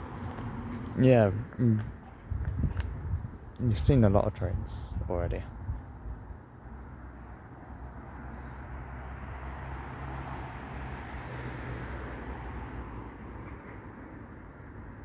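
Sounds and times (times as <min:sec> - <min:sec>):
distant vehicle rumble: 0:00.0 - 0:15.0.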